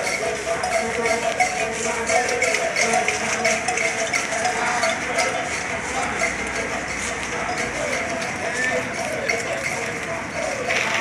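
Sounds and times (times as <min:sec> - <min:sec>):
rhythmic beat: 0:00.0 - 0:11.0.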